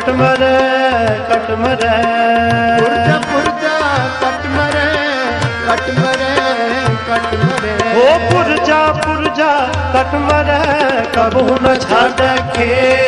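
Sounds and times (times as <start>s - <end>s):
harmonium melody: 0.0s - 13.0s
tabla playing a steady rhythm: 0.0s - 13.0s.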